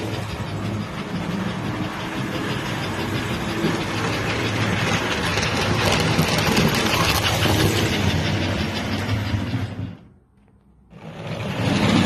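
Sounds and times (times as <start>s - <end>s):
model train motor hum: 0.0s - 10.1s
wheels clicking over rails: 0.0s - 12.0s.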